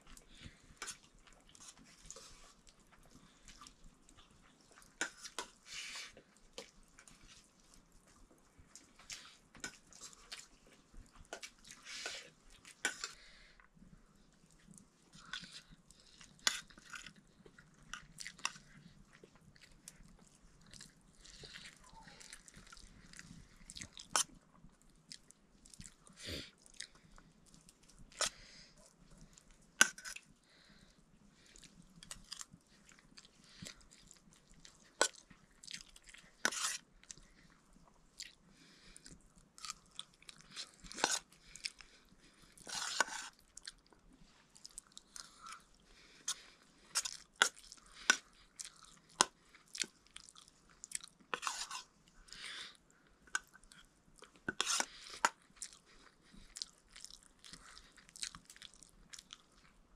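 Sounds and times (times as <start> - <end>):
chewing: 0.0 - 59.8.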